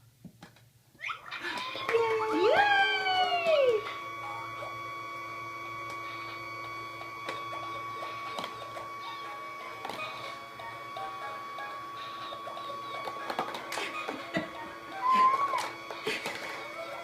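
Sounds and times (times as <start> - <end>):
toy motor whine: 1.0 - 17.0.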